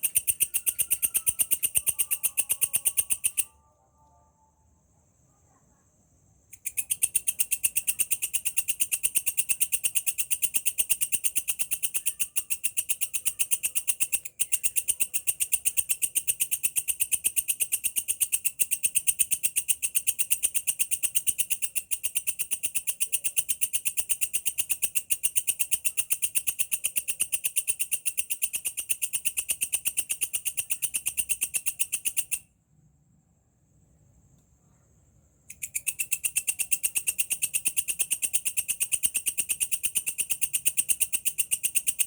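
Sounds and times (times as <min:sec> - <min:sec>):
bush cricket chirring: 0:00.0 - 0:03.6, 0:06.2 - 0:32.6, 0:34.7 - 0:42.0.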